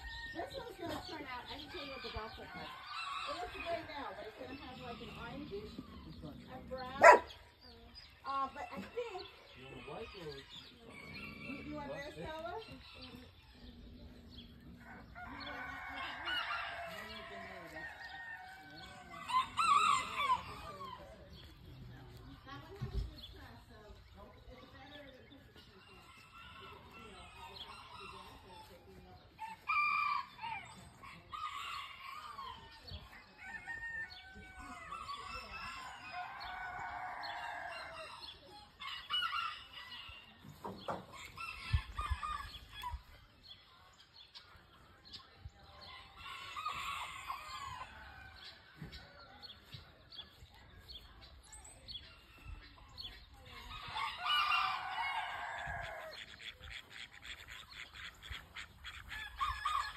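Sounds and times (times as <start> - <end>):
roosters crowing: 0.0 - 7.4, 8.3 - 21.8, 25.6 - 43.6, 45.8 - 50.1, 51.9 - 59.9
chickens clucking: 0.0 - 59.9.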